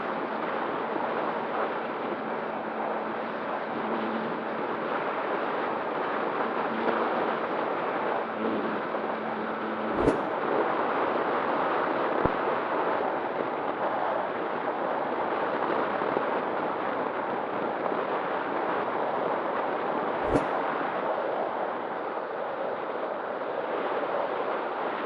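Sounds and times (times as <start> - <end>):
airflow rushing over microphone: 0.0 - 22.7.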